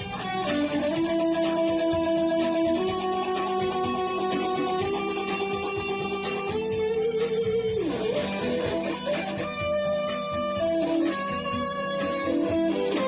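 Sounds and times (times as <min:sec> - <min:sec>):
electric guitar held notes: 0:00.0 - 0:13.0.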